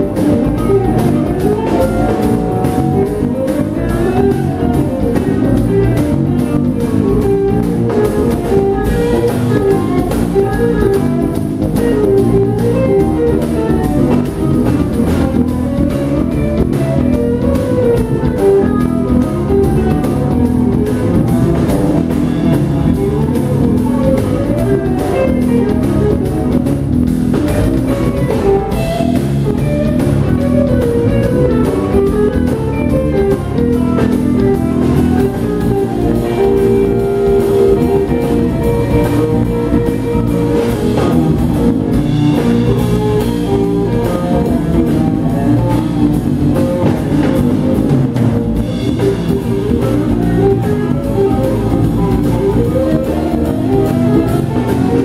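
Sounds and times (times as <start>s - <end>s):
drum kit: 0.0s - 55.0s
electric bass: 0.0s - 55.0s
electric guitar: 0.0s - 55.0s
electric piano: 0.0s - 55.0s.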